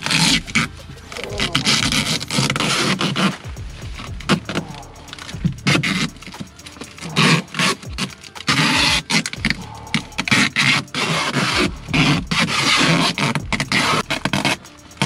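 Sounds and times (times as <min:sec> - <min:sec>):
foil duct scraping and crinkling: 0:00.0 - 0:15.0.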